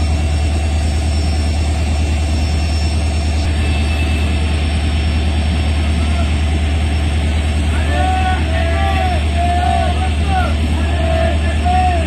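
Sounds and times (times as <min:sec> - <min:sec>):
locomotive diesel engine idling: 0:00.0 - 0:12.0.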